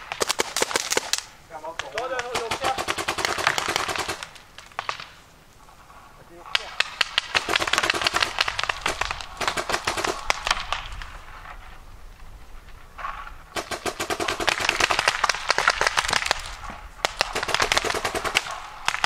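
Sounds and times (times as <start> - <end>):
paintball markers firing pops: 0.0 - 5.2, 6.5 - 11.2, 13.6 - 19.0.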